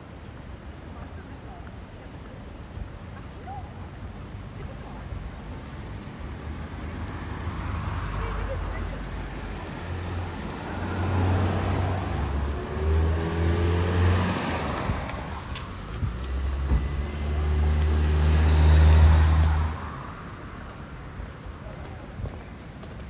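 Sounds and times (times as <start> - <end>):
vehicles passing on wet road: 1.8 - 23.0.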